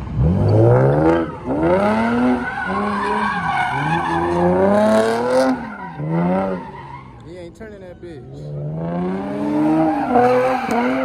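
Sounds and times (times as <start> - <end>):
car engine revving: 0.0 - 11.0
tires squealing: 0.0 - 11.0.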